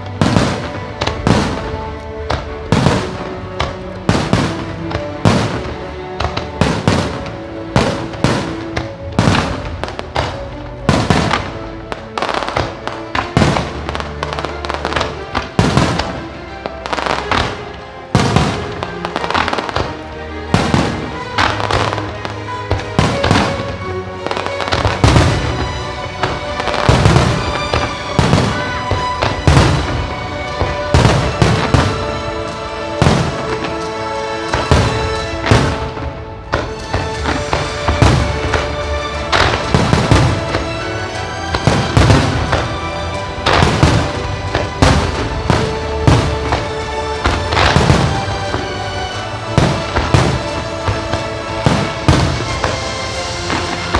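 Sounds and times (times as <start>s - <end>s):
fireworks bangs: 0.0s - 53.9s
music: 0.0s - 53.9s.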